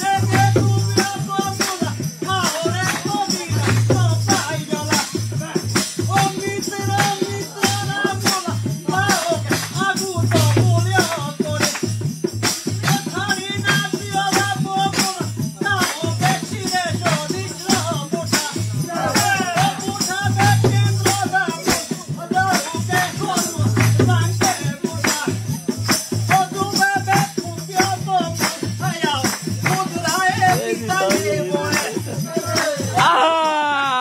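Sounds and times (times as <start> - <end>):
man singing: 0.0 - 12.0, 12.6 - 34.0
percussion beat: 0.0 - 34.0
shaker-like rattle: 0.0 - 34.0.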